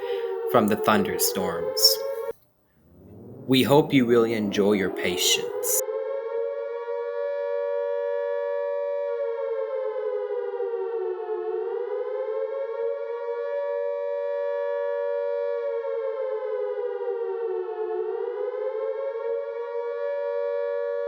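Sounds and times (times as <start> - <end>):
warning siren: 0.0 - 21.0.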